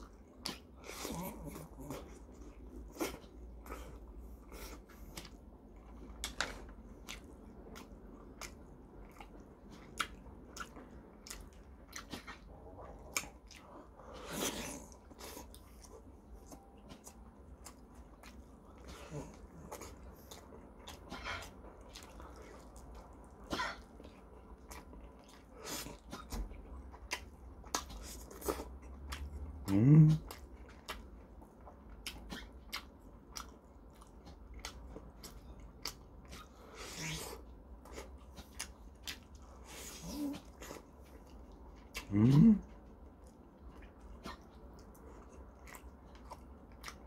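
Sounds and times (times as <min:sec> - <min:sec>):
man chewing: 0:00.0 - 0:47.0.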